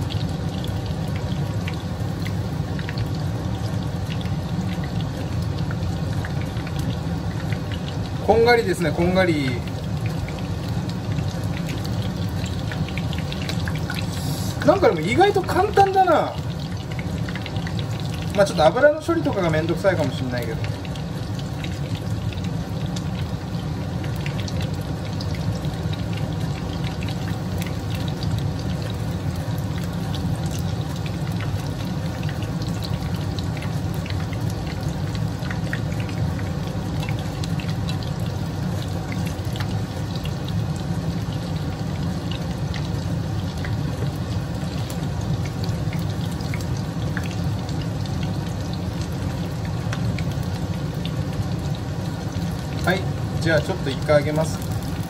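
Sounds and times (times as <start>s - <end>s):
chicken sizzling in oil: 0.0s - 55.0s
oil crackling and popping: 0.0s - 55.0s.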